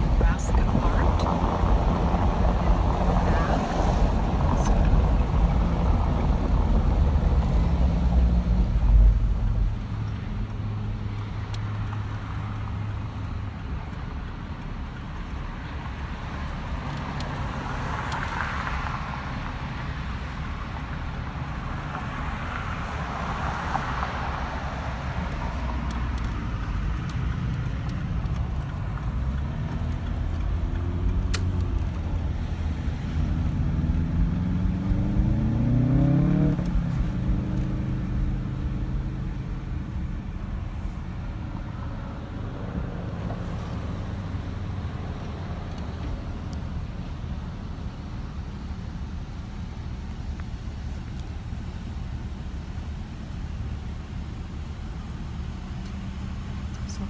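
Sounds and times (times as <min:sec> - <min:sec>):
car engine and road rumble: 0:00.0 - 0:57.0
passing traffic: 0:00.0 - 0:57.0.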